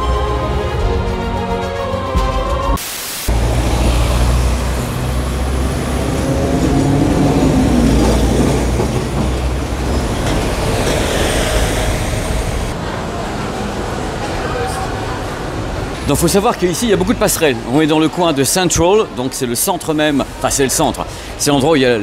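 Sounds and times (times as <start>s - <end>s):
city traffic rumble: 3.3s - 22.0s.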